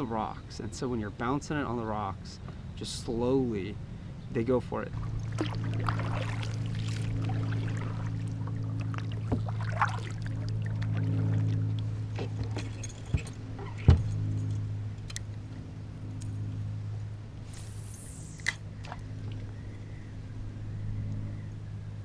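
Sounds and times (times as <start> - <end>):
engine humming: 3.5 - 22.0.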